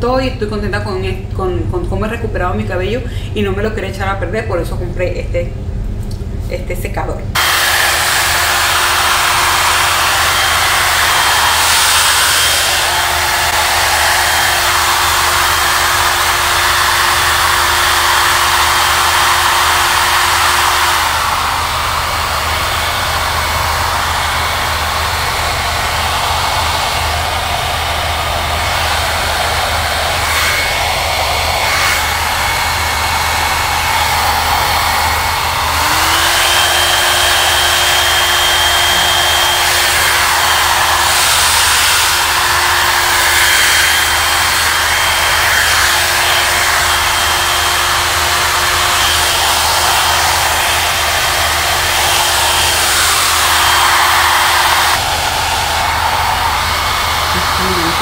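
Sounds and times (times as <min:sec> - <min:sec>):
hair dryer blowing: 0:07.3 - 0:58.0.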